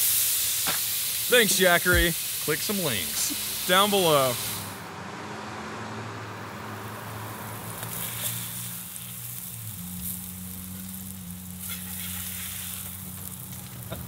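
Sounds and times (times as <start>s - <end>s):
steaks sizzling on a griddle: 0.0s - 4.8s, 7.4s - 14.0s.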